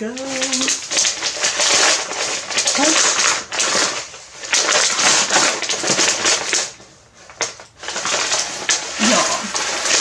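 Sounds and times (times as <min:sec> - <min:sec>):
packaging crinkling and tearing: 0:00.1 - 0:10.0.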